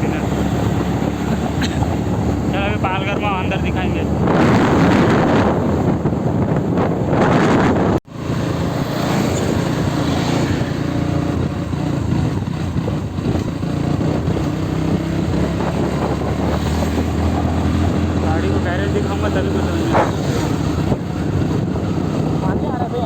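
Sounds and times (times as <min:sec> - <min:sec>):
motorcycle engine running: 0:00.0 - 0:23.0
rushing wind noise: 0:00.0 - 0:23.0.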